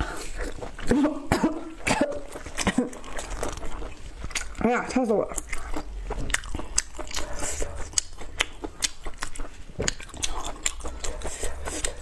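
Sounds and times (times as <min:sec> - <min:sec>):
person chewing sausage: 0:00.0 - 0:12.0.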